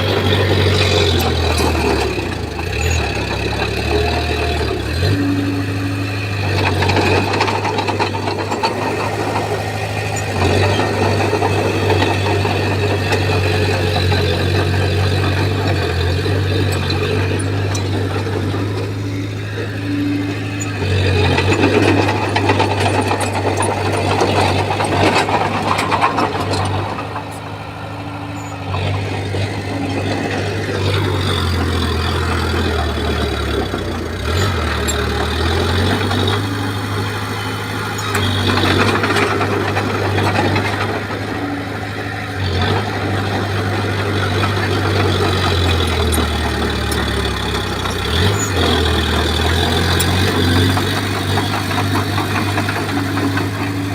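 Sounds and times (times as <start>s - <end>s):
bulldozer diesel engine under load: 0.0s - 53.9s
rough clatter and grinding: 0.0s - 53.9s.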